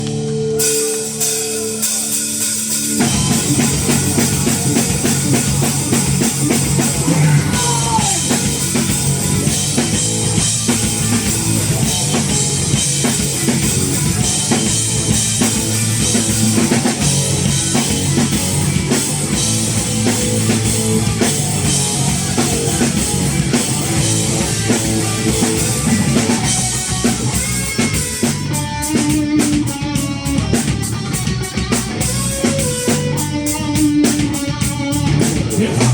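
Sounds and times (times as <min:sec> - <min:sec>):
rock band playing: 0:00.0 - 0:35.9.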